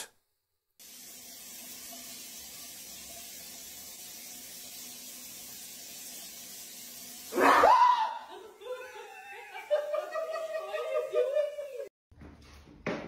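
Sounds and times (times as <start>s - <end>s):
indoor room hiss: 0.2s - 11.9s.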